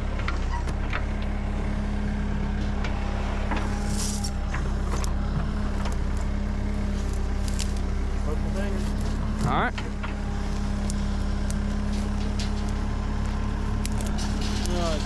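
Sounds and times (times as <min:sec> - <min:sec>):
backhoe engine running: 0:00.0 - 0:15.0.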